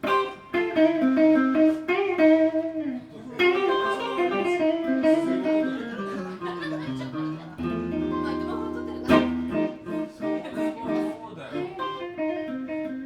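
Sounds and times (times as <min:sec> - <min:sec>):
guitar melody: 0:00.0 - 0:13.0.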